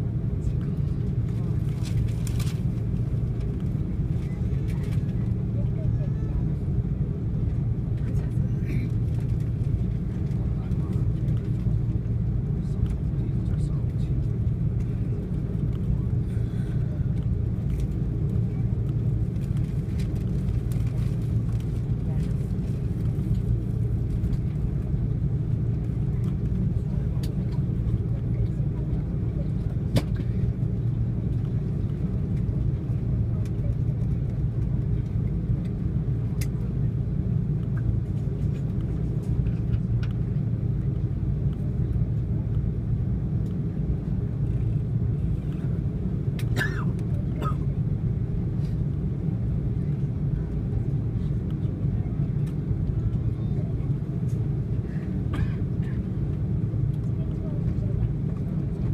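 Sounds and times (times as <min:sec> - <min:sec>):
jet engine cabin rumble: 0:00.0 - 0:58.9.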